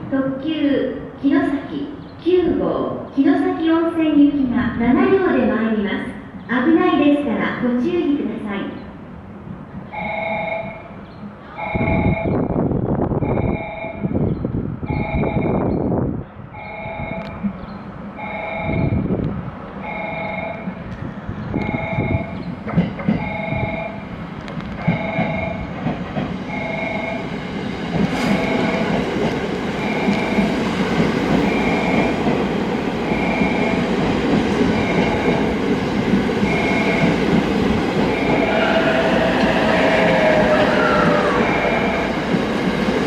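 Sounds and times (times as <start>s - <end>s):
electric train rumble and wheel noise: 0.0s - 43.0s.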